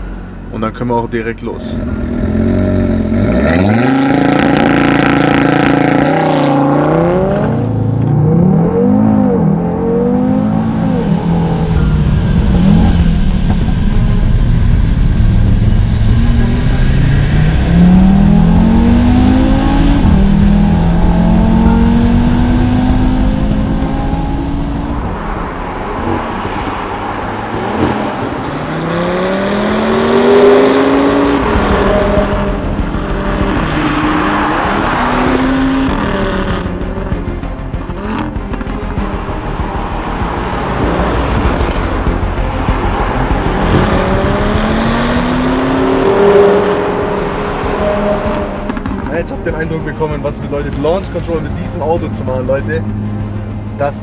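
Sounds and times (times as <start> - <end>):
car engine revving hard: 1.7 - 37.2, 39.1 - 49.8.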